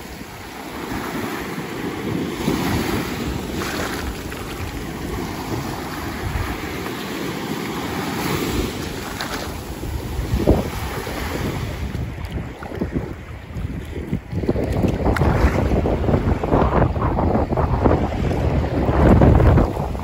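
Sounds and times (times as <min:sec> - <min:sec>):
small surf washing ashore: 0:00.0 - 0:20.0
wind buffeting microphone: 0:00.0 - 0:20.0.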